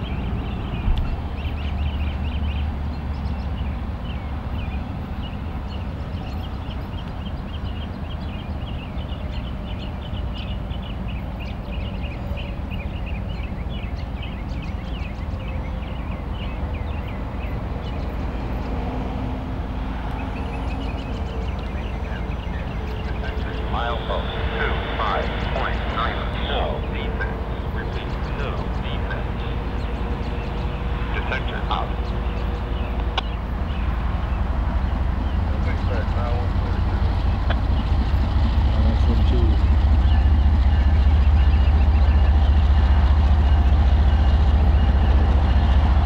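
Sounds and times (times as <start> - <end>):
birds chirping: 0.0 - 46.0
distant diesel locomotive rumble: 0.0 - 46.0.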